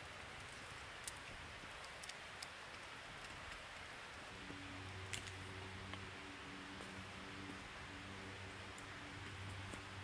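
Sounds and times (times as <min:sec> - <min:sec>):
campfire hissing: 0:00.0 - 0:10.0
fire crackles and pops: 0:00.0 - 0:10.0.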